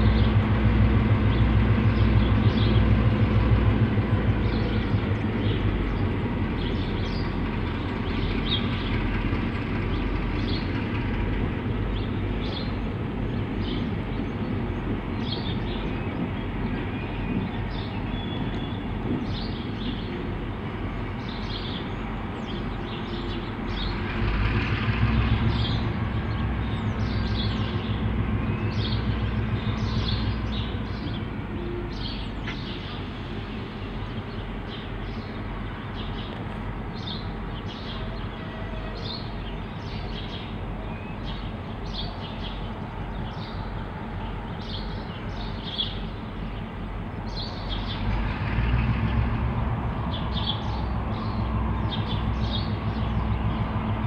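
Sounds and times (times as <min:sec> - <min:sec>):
diesel locomotive engine rumble: 0:00.0 - 0:54.0.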